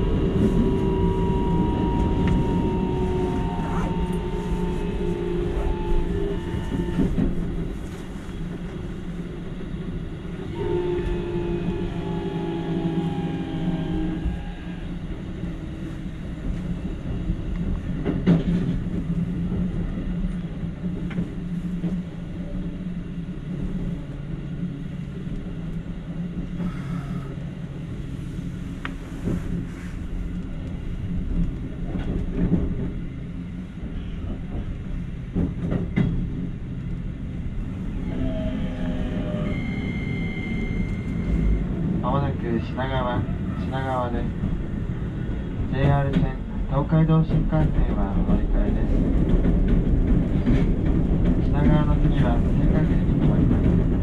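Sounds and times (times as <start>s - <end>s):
electric train whine: 0.0s - 54.0s
train wheels rumbling on rail: 0.0s - 54.0s.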